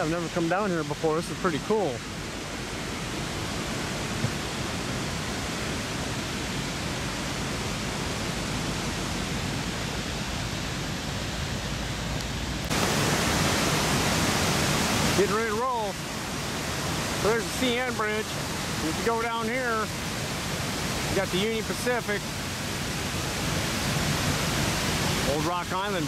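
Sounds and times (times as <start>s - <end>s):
water rushing over dam spillway: 0.0s - 26.0s.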